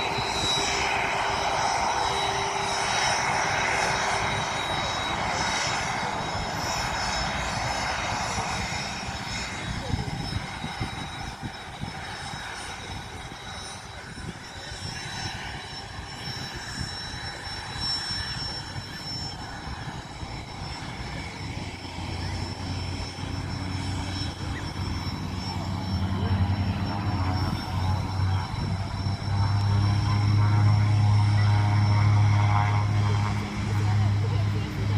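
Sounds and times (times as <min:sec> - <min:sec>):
aircraft engines whining: 0:00.0 - 0:34.9.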